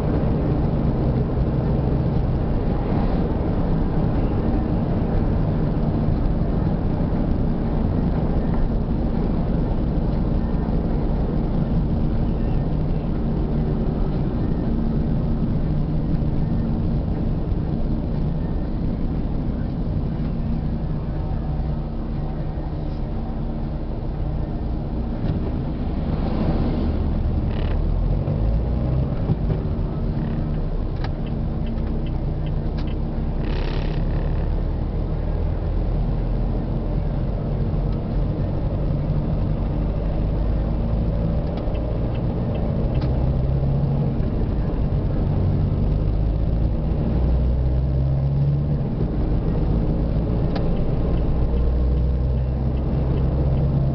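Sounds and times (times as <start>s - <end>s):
engine and tyre rumble in car: 0.0s - 53.9s.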